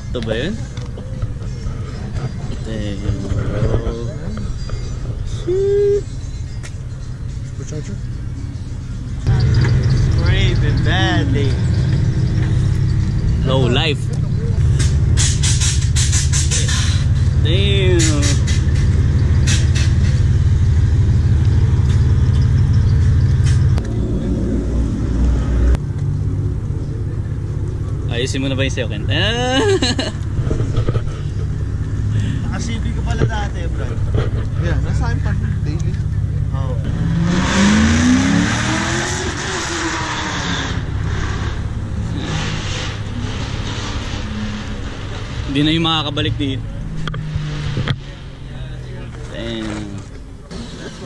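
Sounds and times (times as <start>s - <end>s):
pickup trucks rumbling past: 0.0s - 51.0s
car engine revving: 7.7s - 51.0s.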